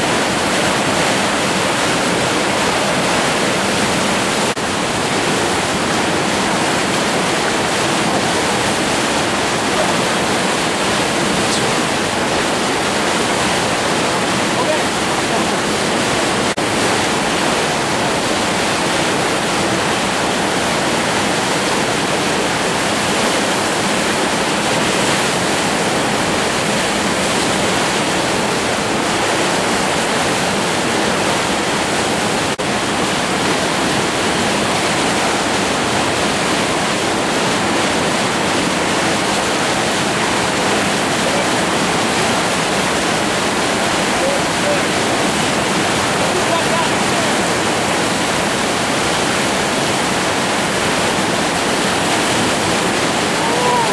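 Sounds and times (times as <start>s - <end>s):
whitewater rapids rushing: 0.0s - 53.9s.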